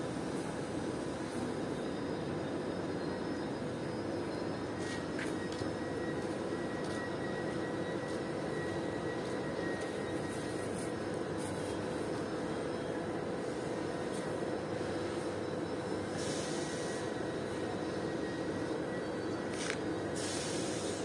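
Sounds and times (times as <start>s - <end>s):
machine drone: 0.0s - 21.0s.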